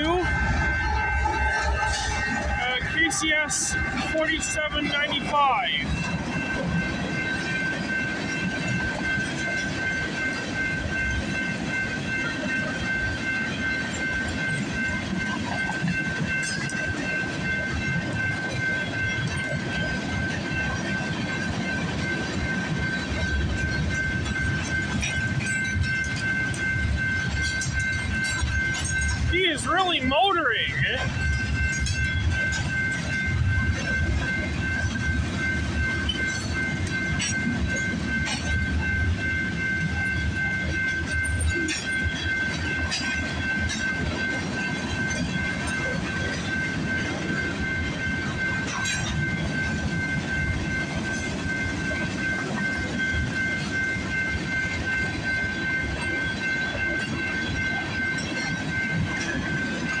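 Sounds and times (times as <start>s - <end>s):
freight train wheels rumbling on rail: 0.0s - 60.0s
level crossing warning bell: 0.0s - 60.0s.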